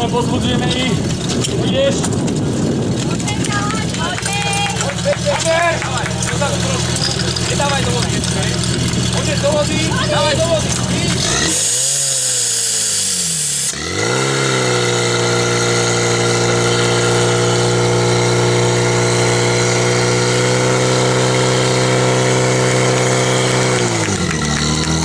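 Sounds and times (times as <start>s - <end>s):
pump engine at high revs: 0.0s - 25.0s.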